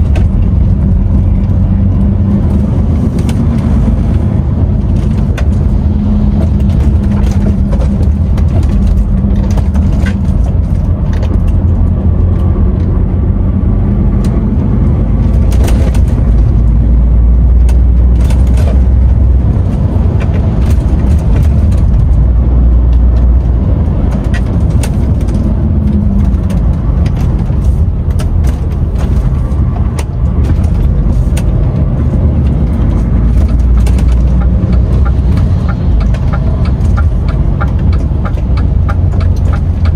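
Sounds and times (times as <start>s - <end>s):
cab clicks and rattles: 0.0s - 13.0s, 14.1s - 39.9s
truck diesel engine drone: 0.0s - 39.9s.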